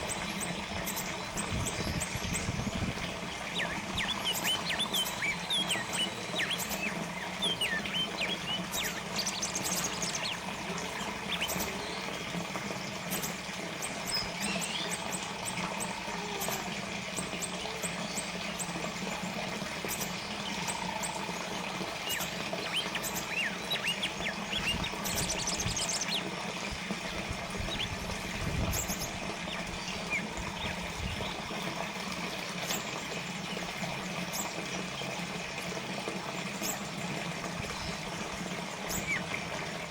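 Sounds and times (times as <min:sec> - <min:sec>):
small birds chirping: 0:00.0 - 0:26.4, 0:27.1 - 0:34.6, 0:37.5 - 0:39.9
fountain water trickling: 0:00.0 - 0:39.9.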